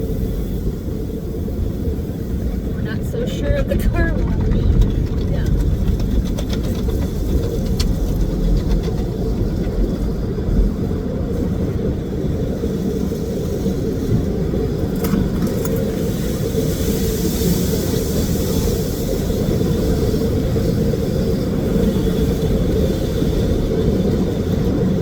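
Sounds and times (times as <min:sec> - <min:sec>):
car wash low rumble: 0:00.0 - 0:25.0.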